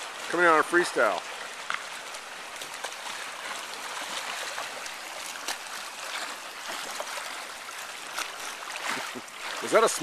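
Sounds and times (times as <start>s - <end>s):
water splashing from swimming: 0.0s - 10.0s.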